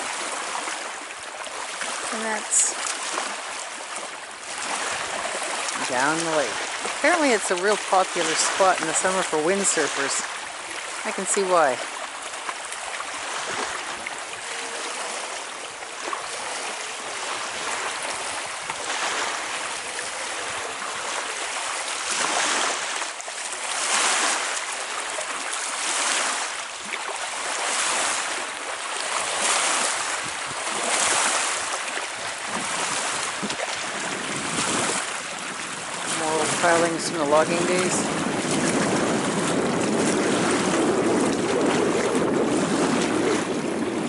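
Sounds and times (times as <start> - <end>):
small waves washing onto shore: 0.0 - 44.0.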